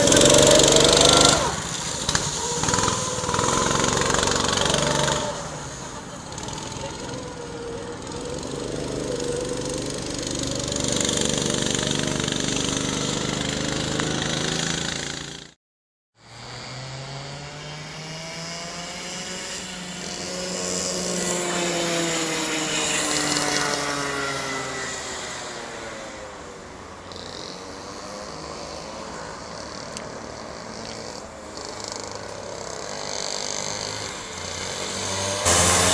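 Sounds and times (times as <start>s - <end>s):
kart engine revving: 0.0s - 15.6s, 16.2s - 35.9s.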